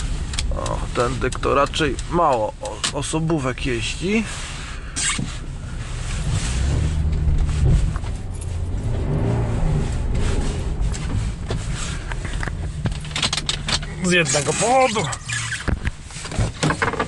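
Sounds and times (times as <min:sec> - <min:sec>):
car engine from inside cabin: 0:00.0 - 0:16.6.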